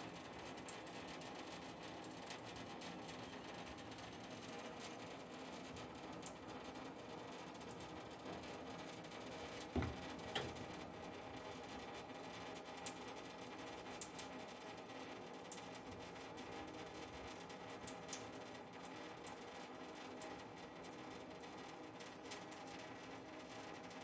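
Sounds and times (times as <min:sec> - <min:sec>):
tap water trickling into sink: 0:02.0 - 0:23.9.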